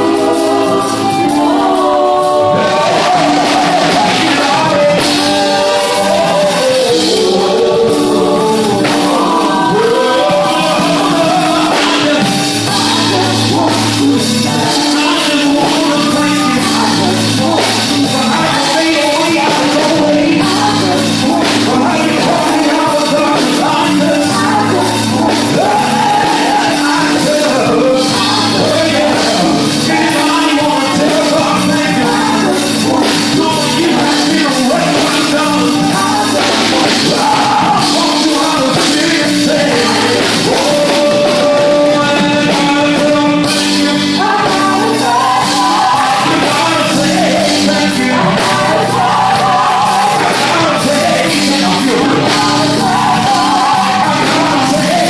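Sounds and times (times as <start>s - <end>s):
drum kit beat: 0.0s - 55.0s
electric bass: 0.0s - 55.0s
keyboard: 0.0s - 55.0s
singers: 0.0s - 55.0s.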